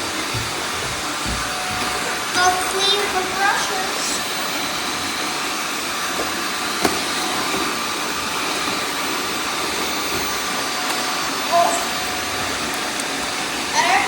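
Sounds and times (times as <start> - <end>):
robot vacuum cleaners whirring: 0.0 - 14.0.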